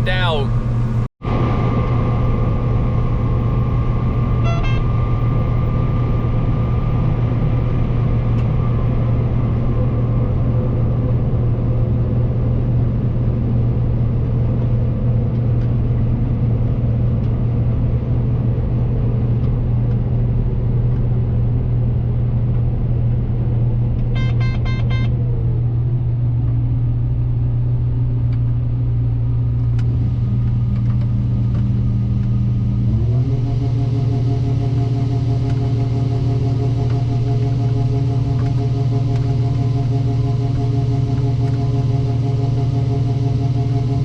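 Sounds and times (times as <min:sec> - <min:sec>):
combine harvester drone: 0:00.0 - 0:44.0.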